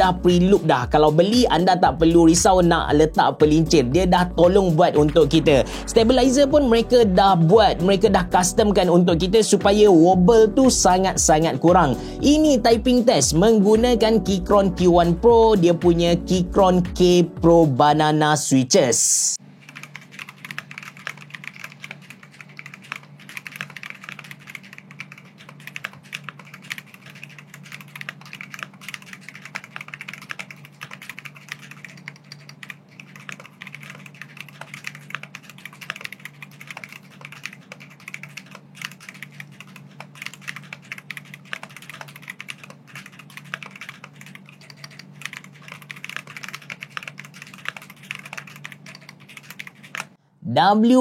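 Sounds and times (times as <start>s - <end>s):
fast mechanical keyboard typing: 0.0s - 17.2s, 19.6s - 50.2s.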